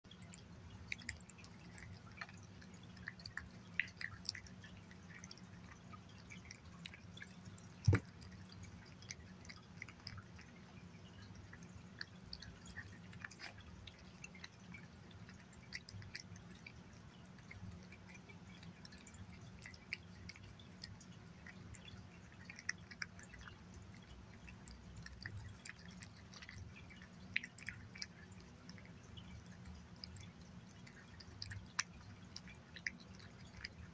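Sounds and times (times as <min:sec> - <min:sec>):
cat chewing and licking: 0:00.1 - 0:33.9
low steady hum: 0:00.1 - 0:33.9.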